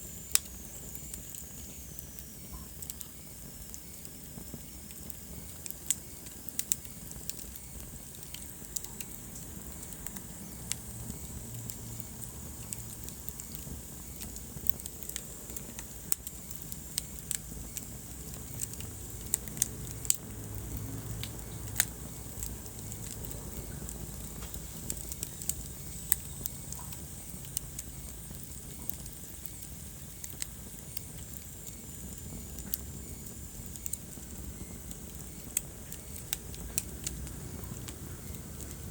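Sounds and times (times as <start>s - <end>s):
fire crackles and pops: 0.0s - 38.9s
fire rumbling and hissing: 0.0s - 38.9s.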